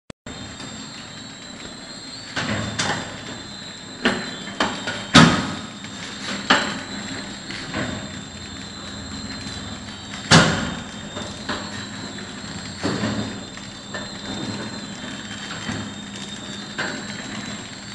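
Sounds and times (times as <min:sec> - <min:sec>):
machine humming with high whine: 0:00.3 - 0:17.9.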